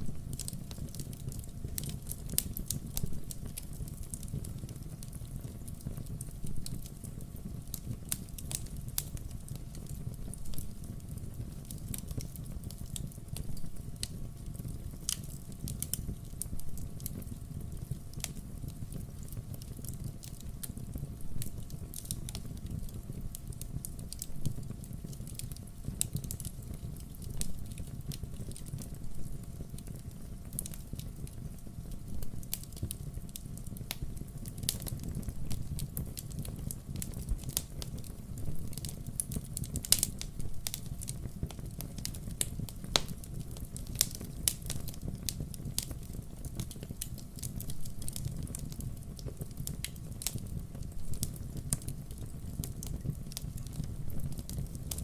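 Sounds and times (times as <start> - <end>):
low rumble of burning logs: 0.0 - 55.0
wood fire crackling: 0.0 - 55.0.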